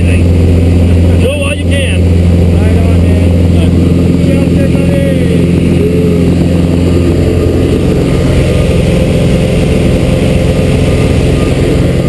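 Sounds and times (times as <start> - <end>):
plane engine and propeller drone: 0.0 - 12.0.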